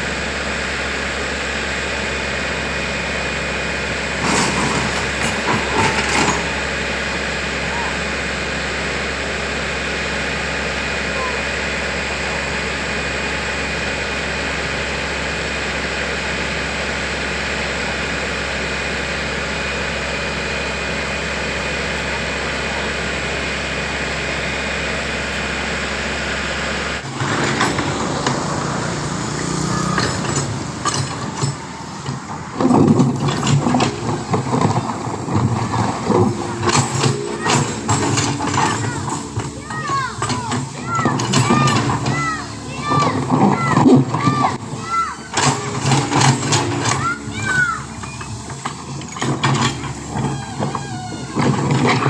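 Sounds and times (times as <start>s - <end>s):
heavy diesel engine running: 0.0s - 52.0s
voices: 4.2s - 14.6s, 16.2s - 52.0s.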